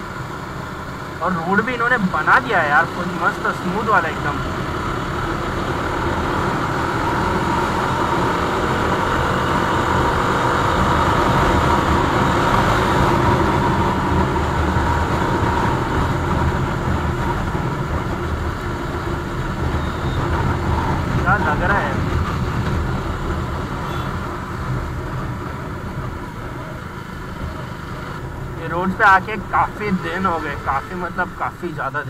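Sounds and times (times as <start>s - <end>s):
motorcycle engine running: 0.0s - 31.7s
wind and road noise: 0.0s - 32.0s.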